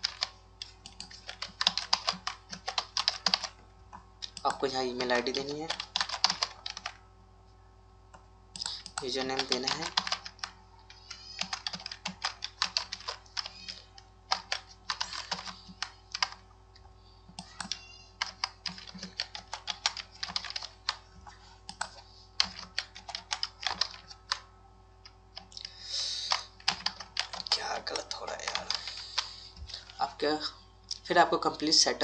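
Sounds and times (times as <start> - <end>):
keyboard typing: 0.0 - 7.0, 8.1 - 16.4, 17.3 - 24.5, 25.3 - 30.1.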